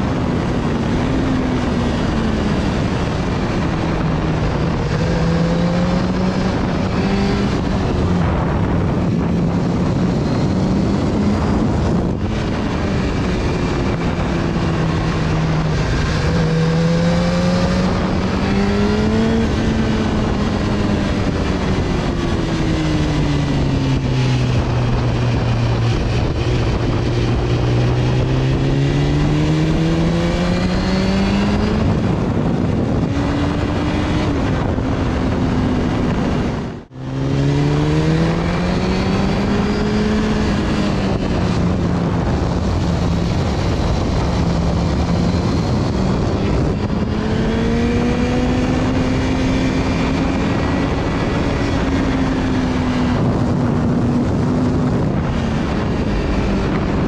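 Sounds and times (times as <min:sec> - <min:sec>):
motorcycle engine rising and falling: 0:00.0 - 0:57.0
wind and road noise: 0:00.0 - 0:57.0.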